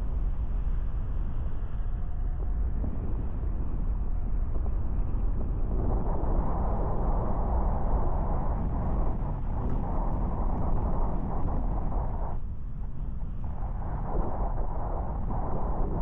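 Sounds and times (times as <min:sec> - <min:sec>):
wind rushing on microphone: 0:00.0 - 0:16.0.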